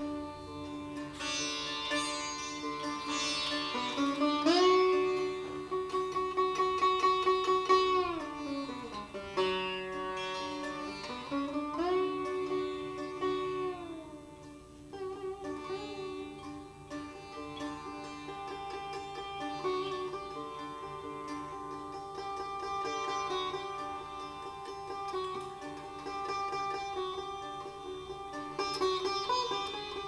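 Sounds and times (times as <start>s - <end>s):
solo sitar with pitch glides: 0.0s - 30.0s.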